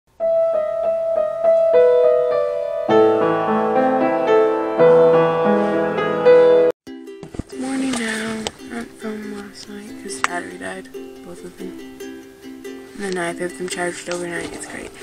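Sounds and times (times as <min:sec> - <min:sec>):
instrumental title music: 0:00.1 - 0:13.6.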